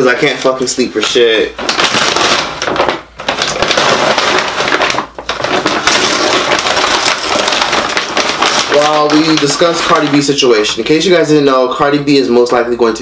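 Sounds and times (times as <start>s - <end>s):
paper bag crinkling and tearing: 0.2s - 11.3s.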